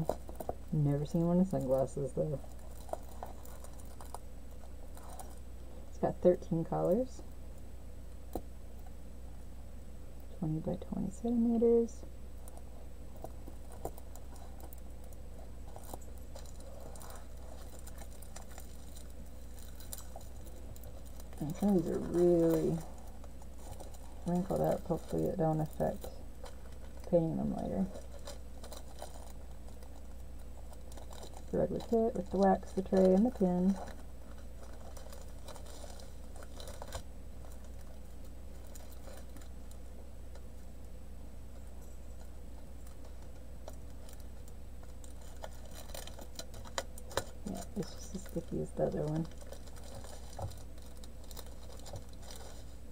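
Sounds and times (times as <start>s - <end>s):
plastic wrapping crinkling: 0.0s - 6.1s, 11.7s - 40.9s, 41.5s - 52.9s
low steady hum: 0.0s - 52.9s.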